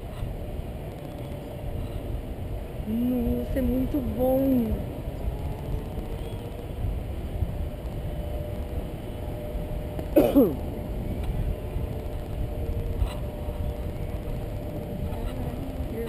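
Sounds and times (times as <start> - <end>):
faint steady tone: 0.0 - 16.0
wind buffeting microphone: 0.0 - 16.0.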